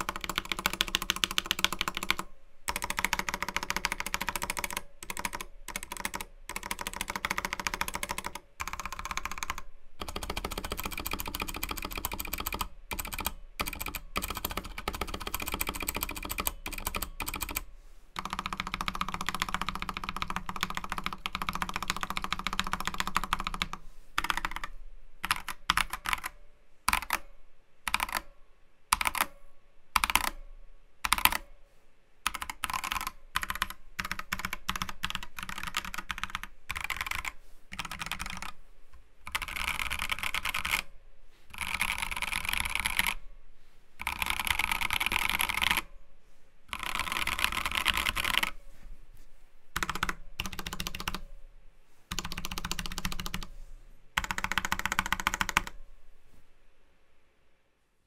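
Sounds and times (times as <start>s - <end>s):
mechanical keyboard typing: 0.0s - 27.3s, 27.9s - 28.3s, 28.9s - 29.4s, 30.0s - 30.4s, 31.0s - 31.5s, 32.2s - 38.6s, 39.2s - 40.9s, 41.5s - 43.2s, 44.0s - 45.9s, 46.7s - 48.6s, 49.8s - 51.3s, 52.1s - 53.5s, 54.2s - 55.8s.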